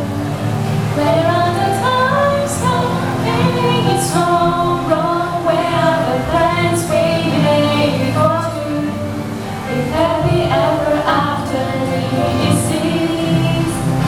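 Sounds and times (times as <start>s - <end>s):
girls singing a pop song: 0.0s - 14.0s
musical accompaniment: 0.0s - 14.0s.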